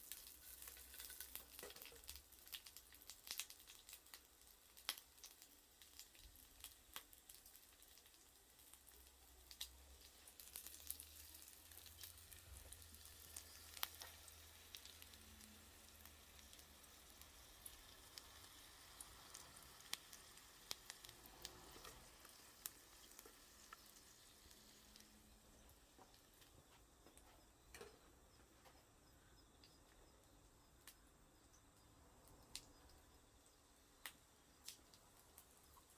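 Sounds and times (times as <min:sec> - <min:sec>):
sausages sizzling: 0:00.0 - 0:28.4, 0:32.3 - 0:35.9
wood fire pops and crackles: 0:00.0 - 0:35.9.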